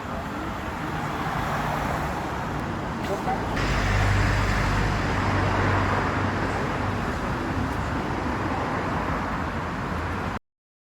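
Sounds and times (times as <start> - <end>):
wind and road noise: 0.0 - 10.4.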